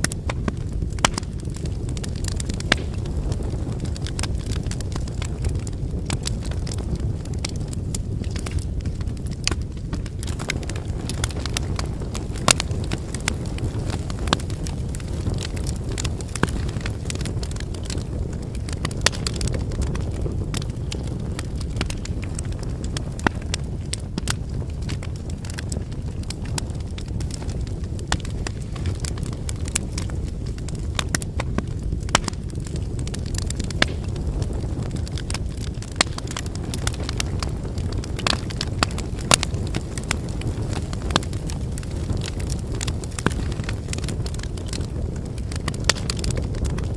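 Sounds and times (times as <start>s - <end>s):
campfire flames rushing: 0.0s - 46.9s
firewood crackling: 0.0s - 46.9s
sharp pops of fire: 0.0s - 46.9s.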